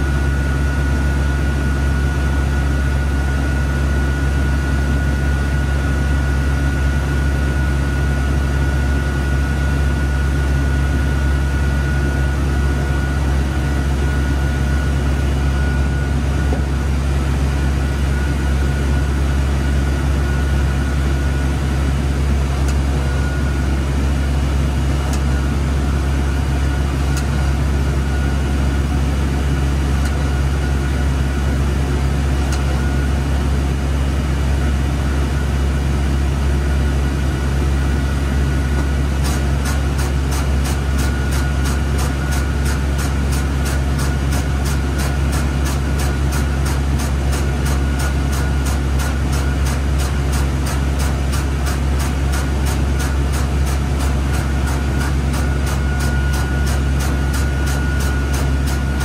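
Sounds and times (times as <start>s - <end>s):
low hum of machinery: 0.0s - 59.0s.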